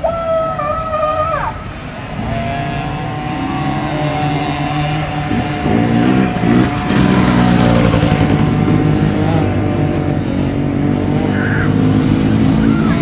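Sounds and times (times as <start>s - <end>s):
small dirt bike engines revving: 0.0s - 13.0s.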